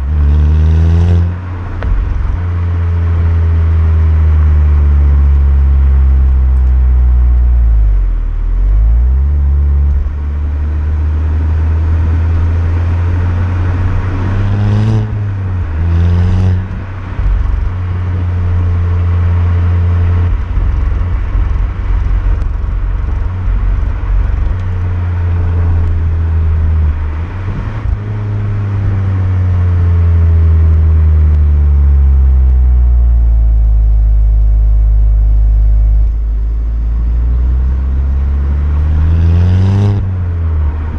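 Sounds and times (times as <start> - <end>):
car engine and exhaust revving: 0.0 - 40.9.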